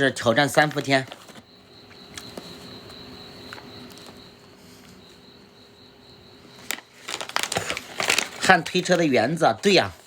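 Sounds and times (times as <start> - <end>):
high-pitched insect trill: 0.0 - 9.8.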